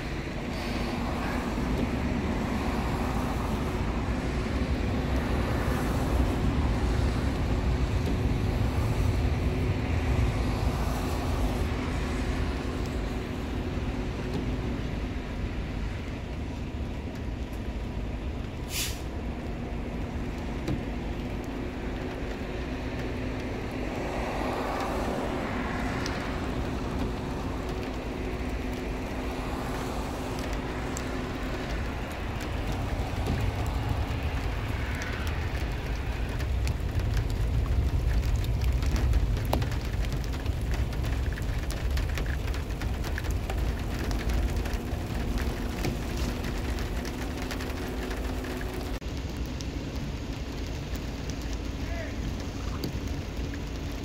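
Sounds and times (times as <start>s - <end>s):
thunder rumbling: 0.0s - 54.0s.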